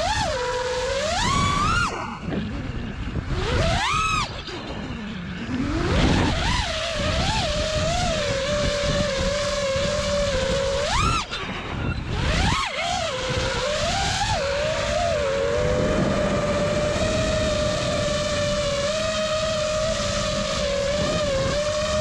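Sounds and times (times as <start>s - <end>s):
drone motors whining: 0.0s - 22.0s
wind on microphone: 0.0s - 22.0s.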